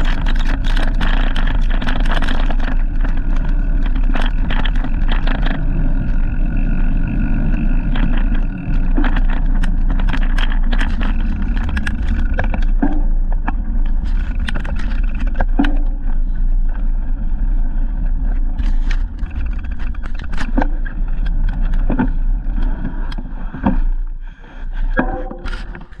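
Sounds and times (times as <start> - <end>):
bike rattling clicks and knocks: 0.0 - 17.0, 18.3 - 23.9, 24.7 - 26.0.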